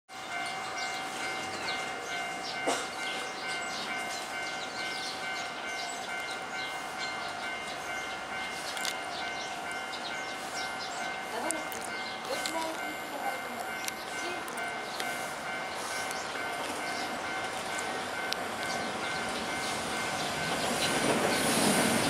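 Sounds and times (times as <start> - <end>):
tram approaching: 0.1 - 22.0
ringing warning tone: 0.2 - 21.4
rail clicks: 0.2 - 22.0.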